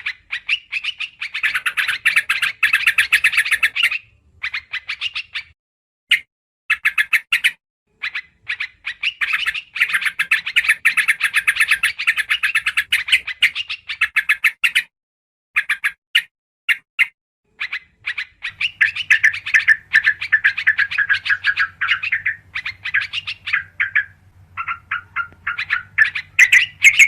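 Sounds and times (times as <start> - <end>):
bulbul chattering: 0.0 - 5.6, 6.7 - 14.5, 17.6 - 27.0.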